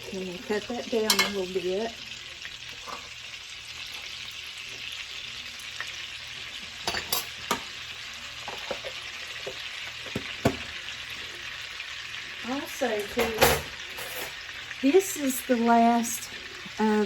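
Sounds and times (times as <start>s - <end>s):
butter sizzling in a frying pan: 0.0s - 17.0s.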